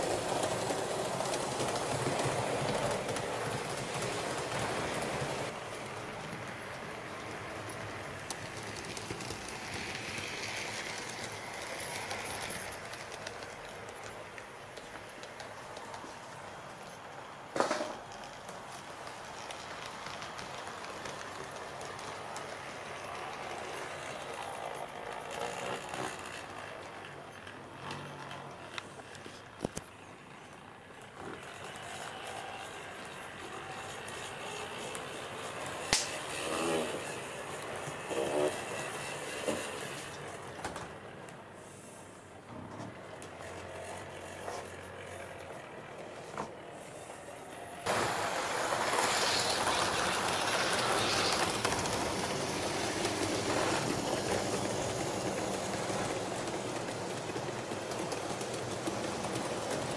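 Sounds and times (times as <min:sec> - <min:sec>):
wheels clicking over rail joints: 0:00.0 - 0:41.5, 0:42.3 - 0:59.9
model train rolling: 0:00.0 - 0:59.9.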